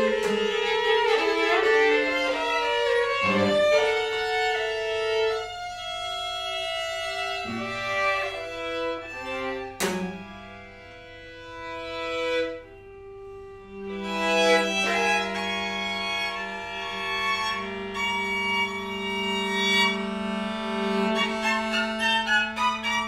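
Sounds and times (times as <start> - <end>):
string quartet playing: 0.0 - 23.0.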